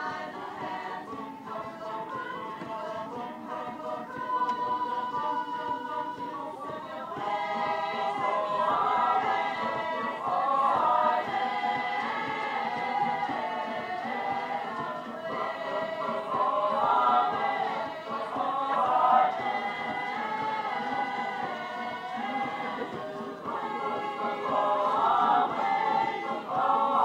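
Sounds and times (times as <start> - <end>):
group singing in harmony: 0.0 - 27.0.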